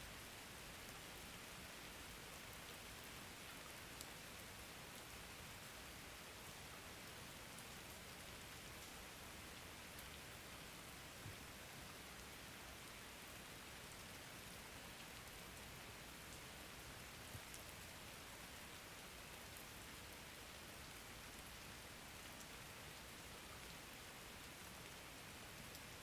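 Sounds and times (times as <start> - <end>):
faint steady rain: 0.0 - 26.0.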